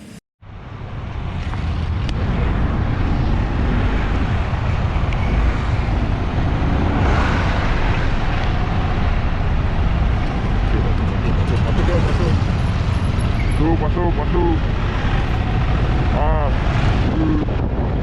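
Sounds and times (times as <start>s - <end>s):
loud steady rumbling: 0.0s - 18.0s
wind buffeting microphone: 0.5s - 18.0s.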